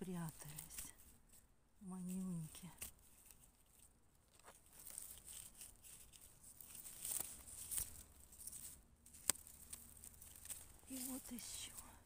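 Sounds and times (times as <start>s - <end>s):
rustling of pine needles: 0.0s - 12.0s.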